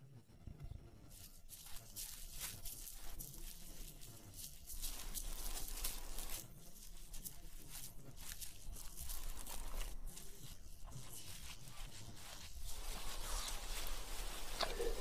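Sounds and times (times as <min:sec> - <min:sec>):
rustling of dry leaves: 0:01.1 - 0:15.0.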